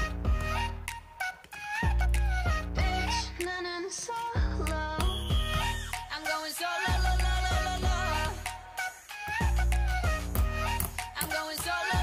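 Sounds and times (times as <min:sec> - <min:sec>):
pop music with heavy bass: 0:00.0 - 0:12.0.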